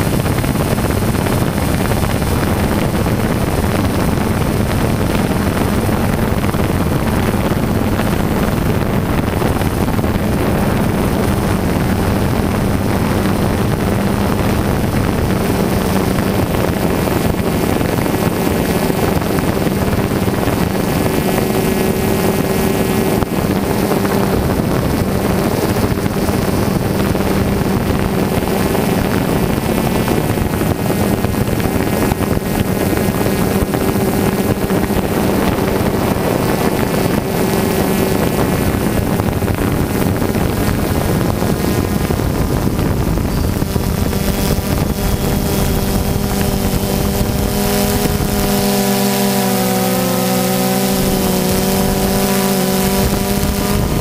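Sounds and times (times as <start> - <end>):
drone motors buzzing whine: 0.0 - 54.0.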